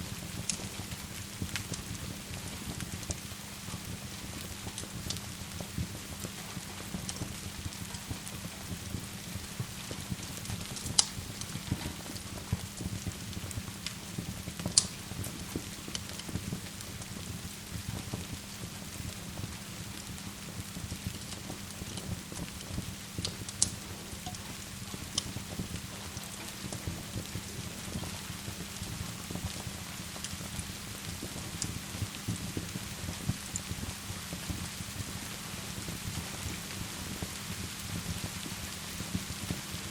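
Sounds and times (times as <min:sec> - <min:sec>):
rain pattering: 0:00.0 - 0:39.9
wood fire crackling and popping: 0:00.0 - 0:39.9.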